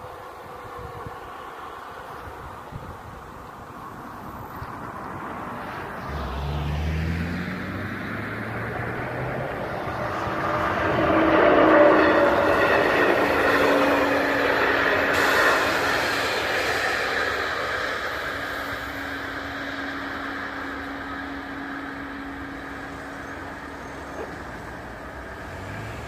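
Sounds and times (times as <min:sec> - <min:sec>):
train passing over crossing: 0:00.0 - 0:26.0.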